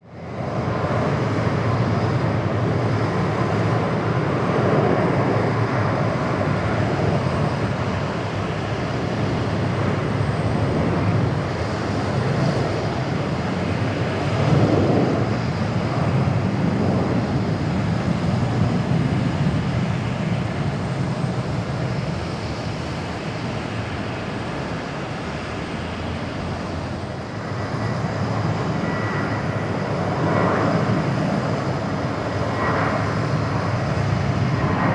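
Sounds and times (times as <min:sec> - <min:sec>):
jet engines at takeoff: 0:00.0 - 0:34.9.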